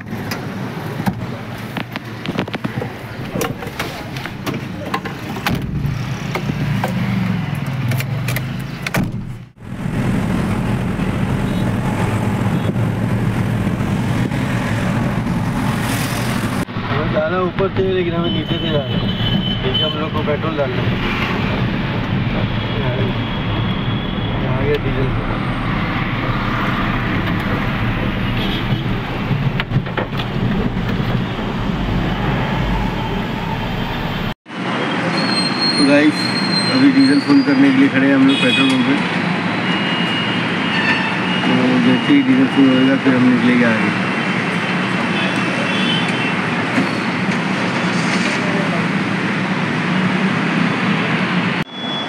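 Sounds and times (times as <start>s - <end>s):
van engine and road drone: 0.0s - 35.2s, 41.3s - 51.7s.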